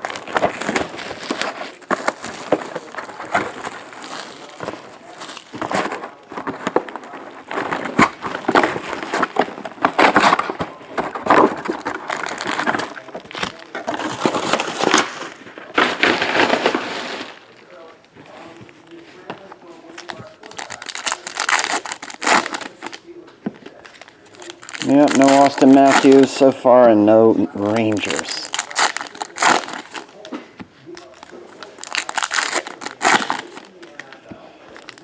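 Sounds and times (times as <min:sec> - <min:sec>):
foil packs handled: 0:00.0 - 0:18.4, 0:19.9 - 0:23.1, 0:23.7 - 0:30.3, 0:30.9 - 0:35.0
plastic shrink wrap crinkling: 0:00.0 - 0:35.0.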